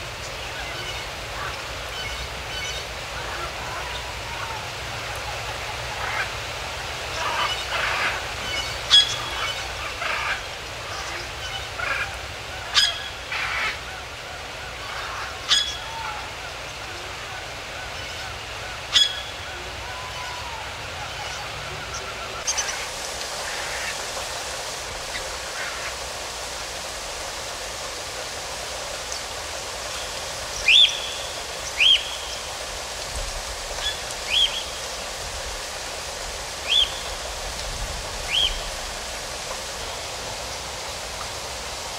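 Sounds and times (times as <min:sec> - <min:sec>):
outdoor ambience hiss: 0:00.0 - 0:41.9.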